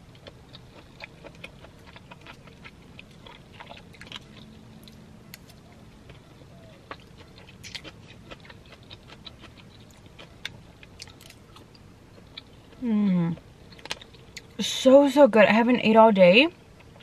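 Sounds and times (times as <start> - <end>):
person chewing: 0.0 - 14.6.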